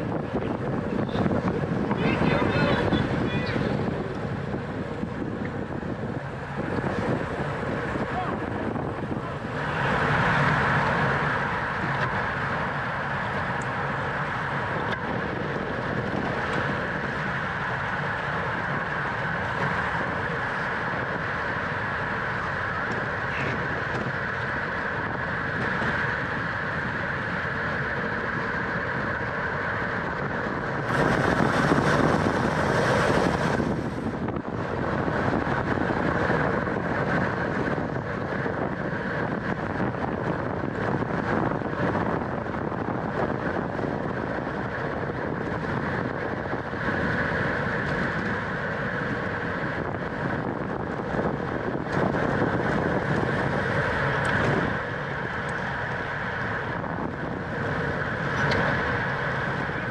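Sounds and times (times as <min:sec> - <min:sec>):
bicycle tyre and drivetrain noise: 0:00.0 - 0:59.9
wind rushing over microphone: 0:00.0 - 0:59.9.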